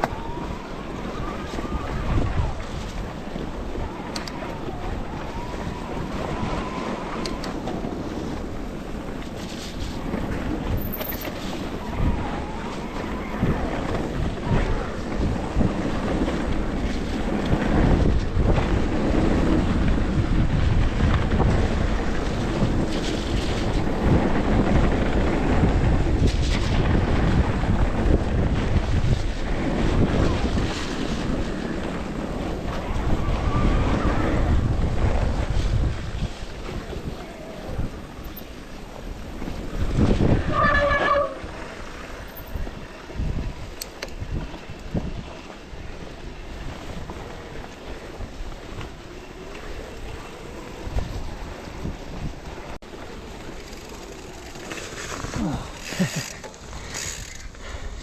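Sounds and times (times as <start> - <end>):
bike tyre noise on trail: 0.0 - 58.0
wind rumbling on microphone: 0.0 - 58.0.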